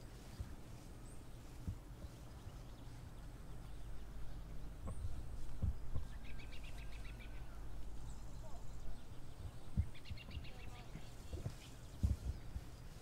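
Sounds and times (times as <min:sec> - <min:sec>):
footsteps through tall weeds: 0:00.0 - 0:13.0
steady low rumble: 0:00.0 - 0:13.0
high bird chirps: 0:00.2 - 0:12.9.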